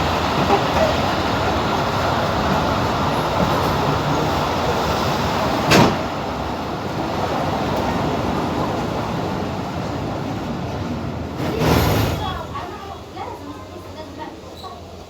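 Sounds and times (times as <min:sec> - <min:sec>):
train carriage rumble and rattle: 0:00.0 - 0:15.0.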